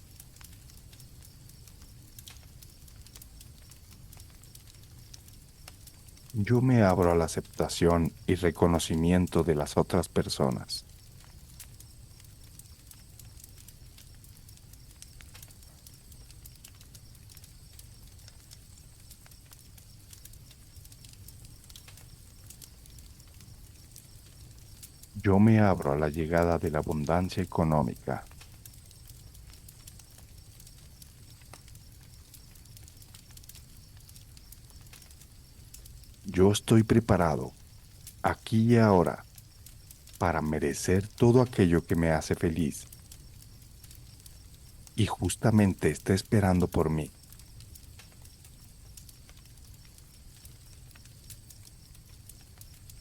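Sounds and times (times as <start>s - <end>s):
campfire crackling and popping: 0.0s - 53.0s
crickets chirping: 0.0s - 53.0s.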